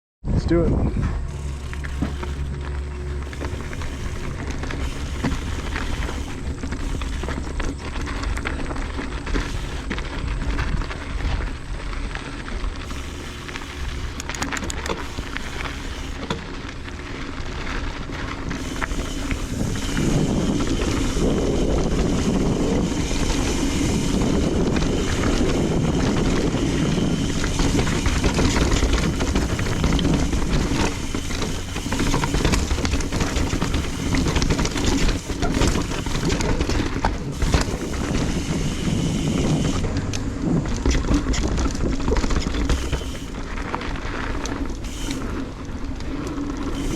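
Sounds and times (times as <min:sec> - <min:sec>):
wind rushing over microphone: 0:00.2 - 0:16.2, 0:18.3 - 0:42.9
bike knocks and clatter: 0:01.0 - 0:46.9
tyres rolling over dirt: 0:01.0 - 0:46.9.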